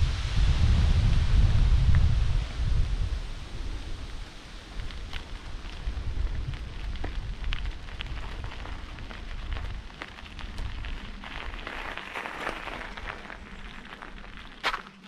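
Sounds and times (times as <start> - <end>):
bicycle tyres crunching on gravel: 0.0 - 15.0
wind rumbling on microphone: 0.0 - 15.0.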